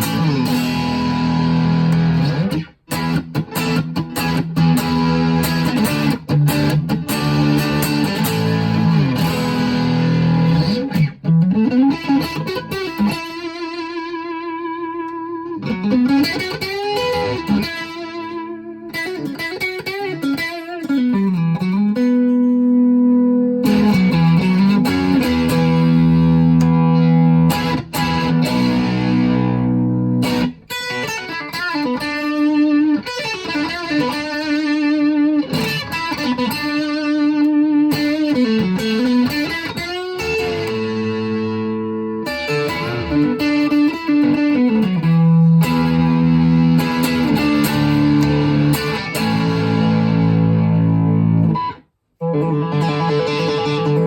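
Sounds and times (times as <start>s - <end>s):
electric guitar lead melody: 0.0s - 54.0s.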